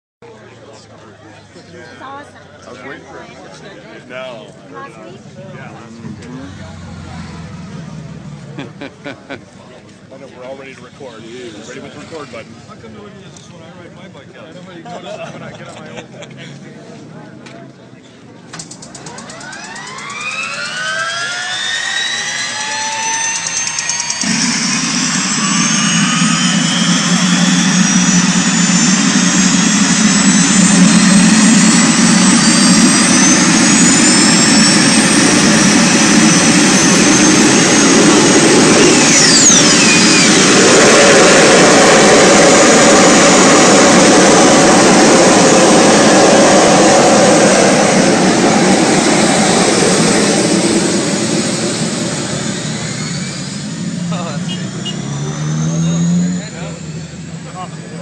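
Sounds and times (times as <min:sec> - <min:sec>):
turbine engine whine: 0:00.2 - 0:58.0.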